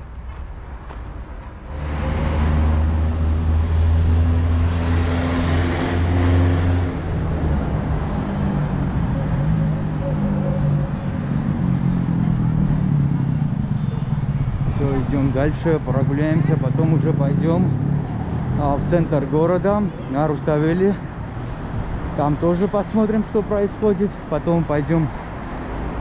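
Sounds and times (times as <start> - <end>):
traffic noise: 0.0 - 26.0
vehicle engine humming: 0.0 - 26.0.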